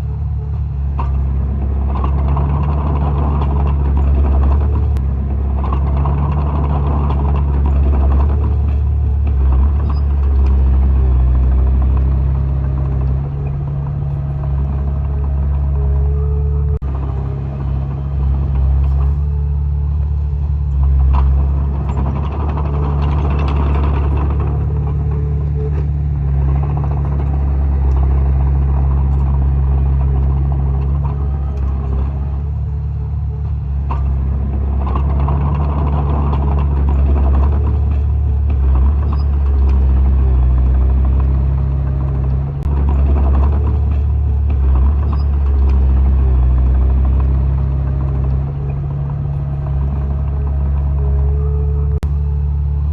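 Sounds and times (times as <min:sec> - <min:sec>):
diesel engine droning under load: 0:00.0 - 0:52.9.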